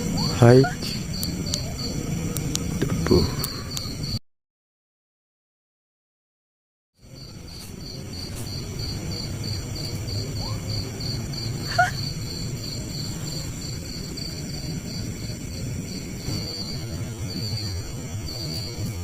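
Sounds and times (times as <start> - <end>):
low rumbling outdoor background: 0.0 - 4.2, 7.0 - 19.0
night insects chirping: 0.0 - 4.2, 7.0 - 19.0.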